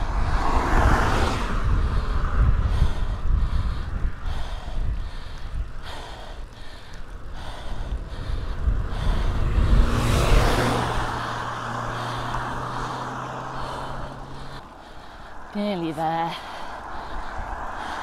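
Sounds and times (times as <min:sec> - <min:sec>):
low engine hum: 0:00.0 - 0:18.0
motor vehicle passing: 0:00.0 - 0:18.0
wind buffeting microphone: 0:00.0 - 0:18.0
heavy breathing: 0:01.8 - 0:18.0.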